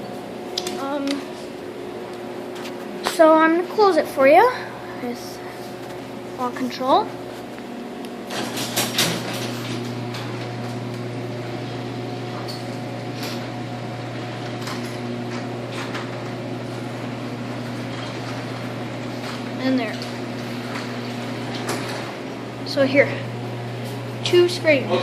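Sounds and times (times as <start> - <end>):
garage door opener humming: 0.0 - 25.0.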